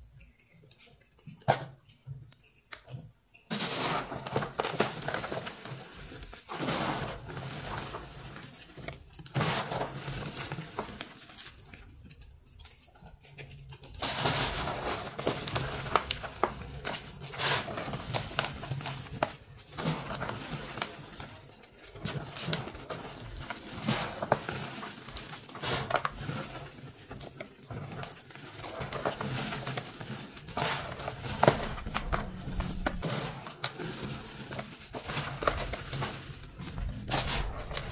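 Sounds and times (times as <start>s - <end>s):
chalk crunching and crackling: 0.0s - 37.9s.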